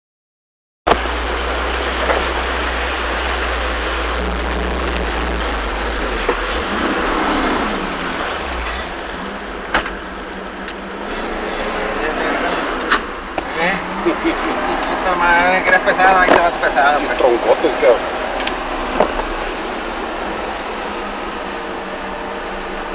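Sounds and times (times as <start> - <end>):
engine low rumble: 0.9 - 22.9
rushing noise over rough ground: 0.9 - 22.9.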